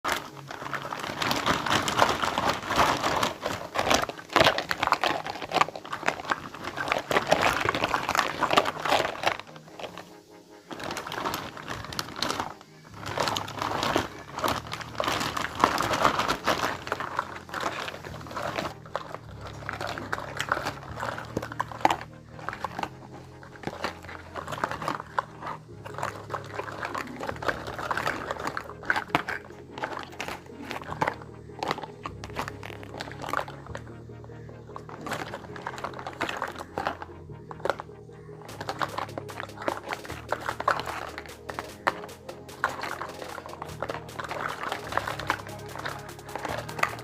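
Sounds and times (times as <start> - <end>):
plastic packaging crinkling: 0.0 - 47.0.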